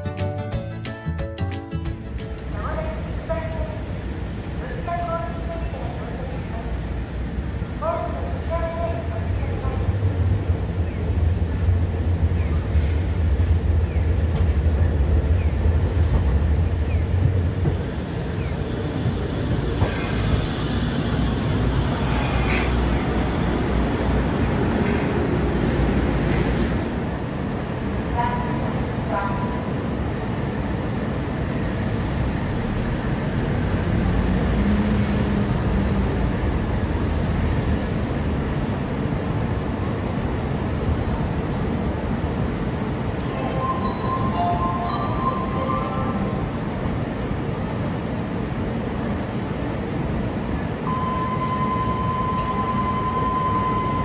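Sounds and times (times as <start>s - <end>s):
streetcar rumbling on rails: 1.7s - 54.0s.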